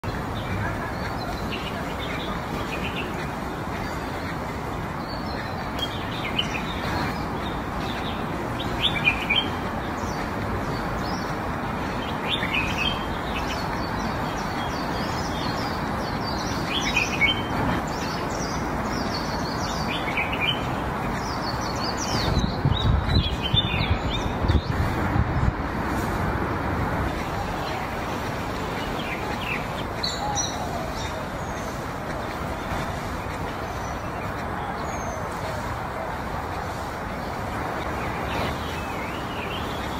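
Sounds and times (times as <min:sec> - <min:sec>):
outdoor background hiss: 0:00.0 - 0:39.9
small birds chirping: 0:00.0 - 0:39.9.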